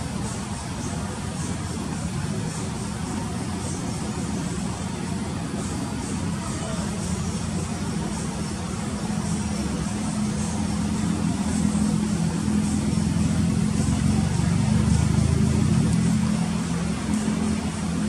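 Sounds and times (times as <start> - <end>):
coach diesel engine humming: 0.0 - 18.0.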